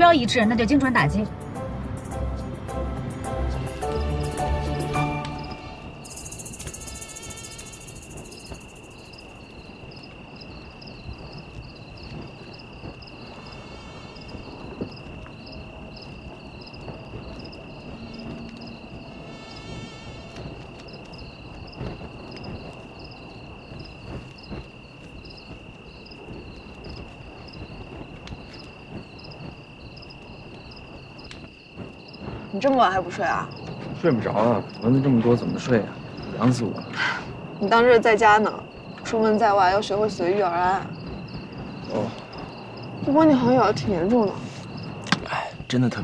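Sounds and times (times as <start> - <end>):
crickets chirping: 0.0 - 46.0
high insect trill: 0.0 - 46.0.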